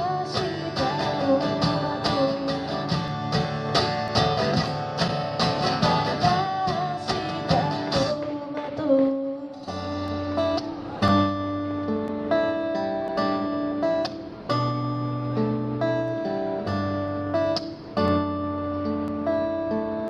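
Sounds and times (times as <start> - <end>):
guitar playing: 0.0 - 20.0.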